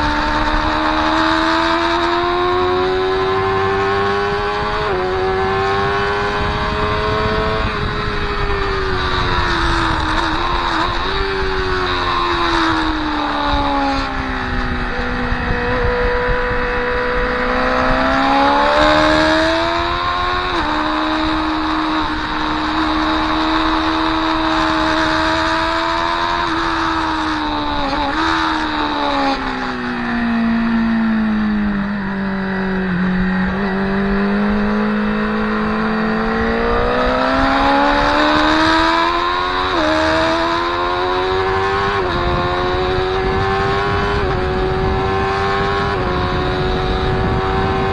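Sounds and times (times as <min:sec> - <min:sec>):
motorcycle engine: 0:00.0 - 0:47.9
wind noise: 0:00.0 - 0:47.9.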